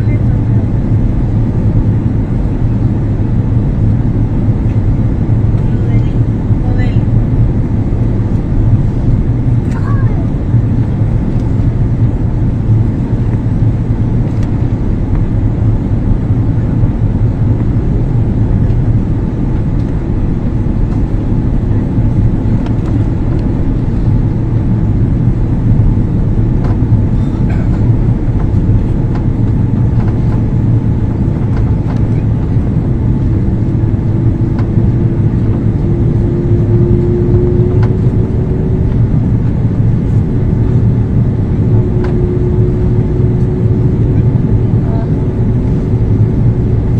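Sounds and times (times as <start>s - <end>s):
airliner cabin engine roar: 0.0s - 46.9s.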